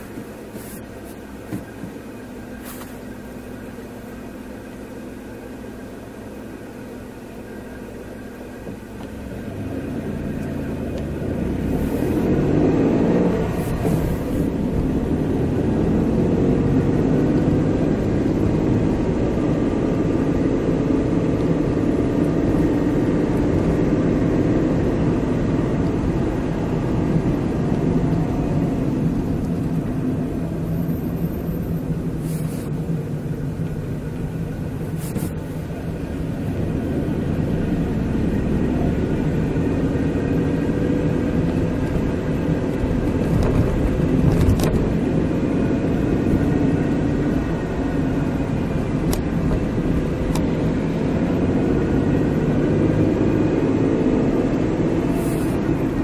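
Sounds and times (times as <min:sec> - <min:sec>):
car engine: 0:00.0 - 0:56.0
road noise inside car: 0:00.0 - 0:56.0.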